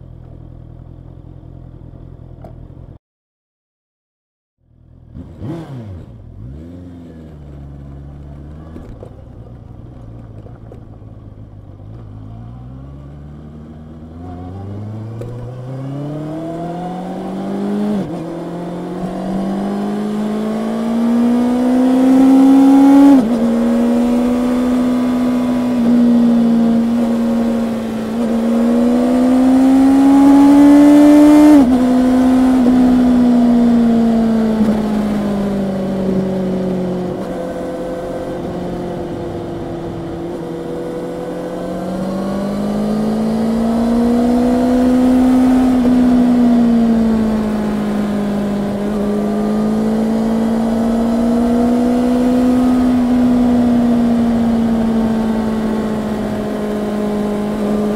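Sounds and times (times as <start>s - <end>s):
motorcycle engine revving: 4.7s - 57.9s.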